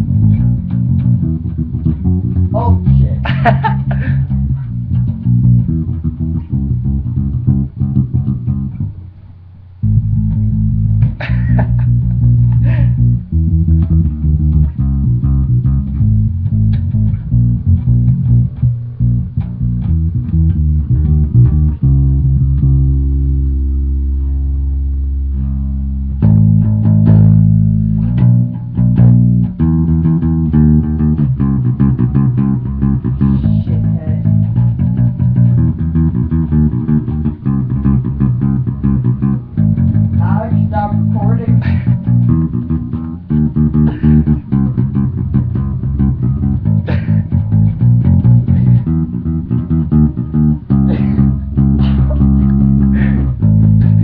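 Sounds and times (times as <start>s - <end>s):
plucked bass guitar: 0.0s - 54.0s.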